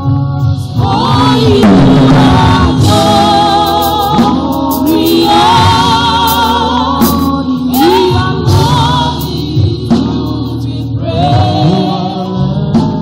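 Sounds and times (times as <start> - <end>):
gospel choir singing: 0.0 - 13.0.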